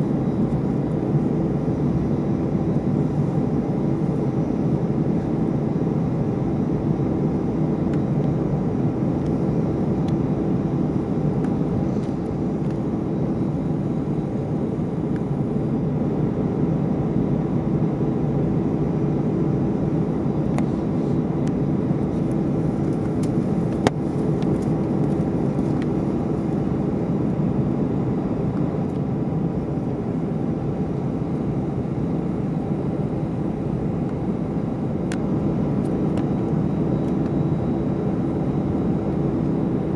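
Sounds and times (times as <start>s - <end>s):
aircraft engines humming: 0.0s - 39.9s.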